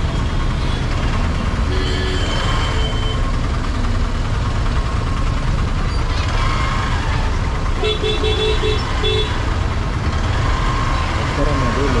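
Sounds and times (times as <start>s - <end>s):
heavy traffic engines rumbling: 0.0s - 12.0s.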